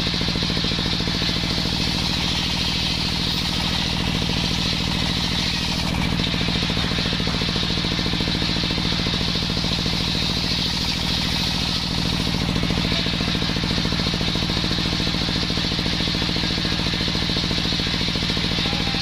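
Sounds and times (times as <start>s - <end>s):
small engine running at speed: 0.0s - 19.0s.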